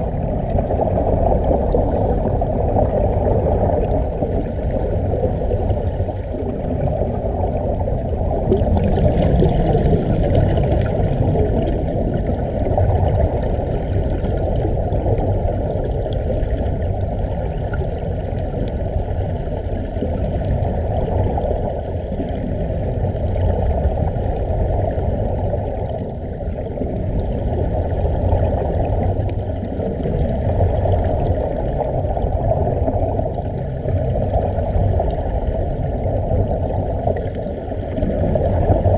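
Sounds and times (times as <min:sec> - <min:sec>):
muffled underwater bubbling: 0:00.0 - 0:38.9.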